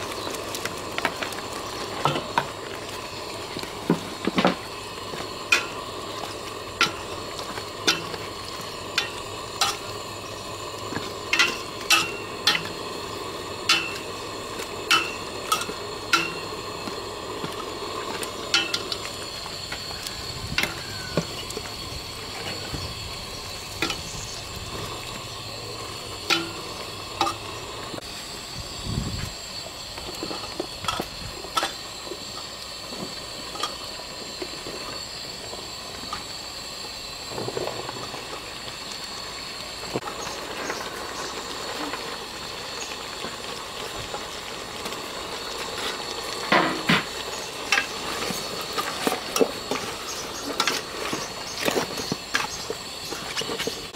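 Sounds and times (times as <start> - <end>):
curry sizzling: 0.0 - 53.9.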